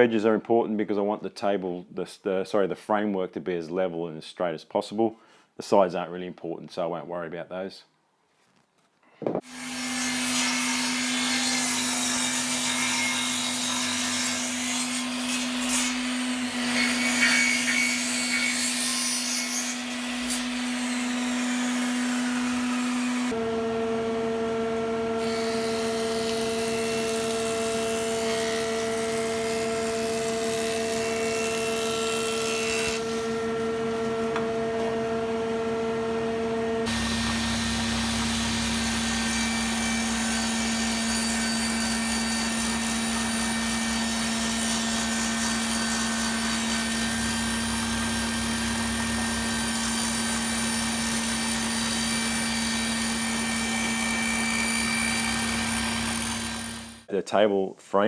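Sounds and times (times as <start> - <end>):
woodworking machines humming: 9.5 - 57.0.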